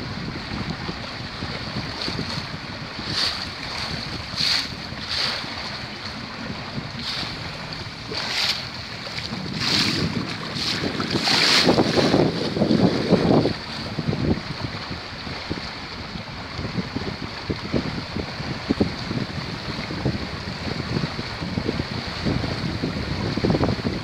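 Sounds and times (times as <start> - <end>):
water rushing along boat hull: 0.0 - 24.0
wind buffeting microphone: 0.0 - 24.0.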